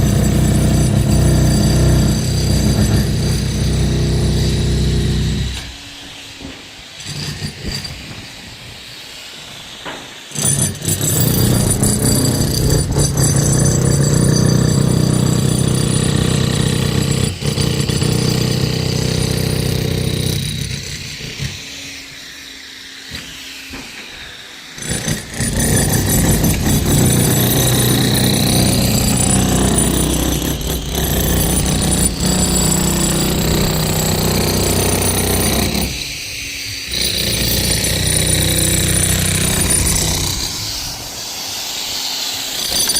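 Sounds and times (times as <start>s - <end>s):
demolition hammer chiselling concrete: 0.0s - 5.8s, 7.0s - 8.2s, 10.3s - 21.7s, 24.8s - 41.0s, 42.5s - 42.9s.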